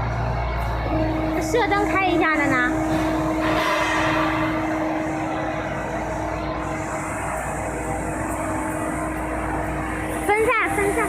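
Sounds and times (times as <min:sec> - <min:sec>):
mixer humming and whirring: 0:00.0 - 0:11.0.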